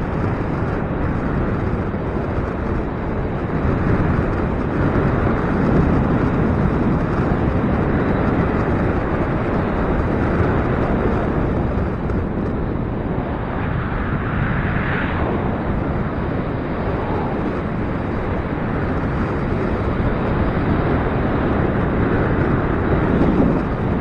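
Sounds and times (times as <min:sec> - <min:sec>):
gusty wind on microphone: 0:00.0 - 0:24.0.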